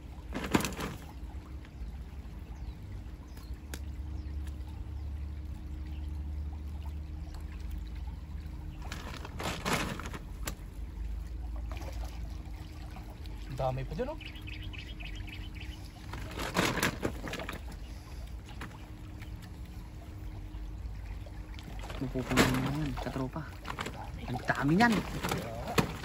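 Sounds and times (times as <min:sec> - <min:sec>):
stream running over rocks: 0:00.0 - 0:26.0
wet net handled in water: 0:00.0 - 0:26.0.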